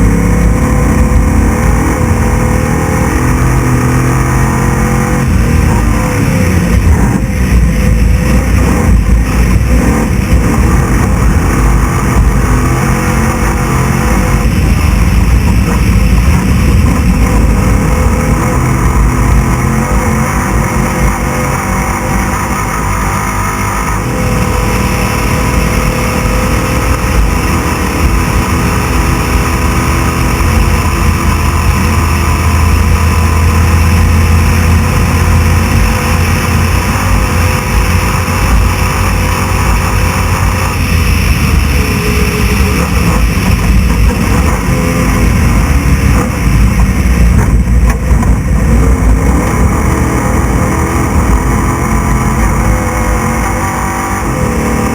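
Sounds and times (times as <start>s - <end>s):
rattle and rough-ground noise: 0.0s - 54.9s
truck engine running hard: 0.0s - 54.9s.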